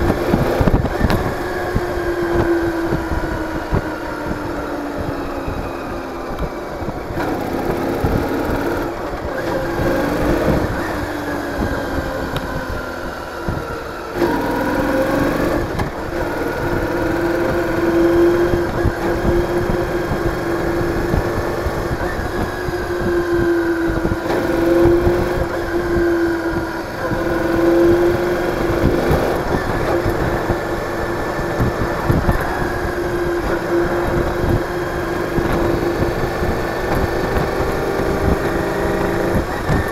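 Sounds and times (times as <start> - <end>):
motorcycle engine running: 0.0 - 39.9
wind rumble on microphone: 0.0 - 39.9.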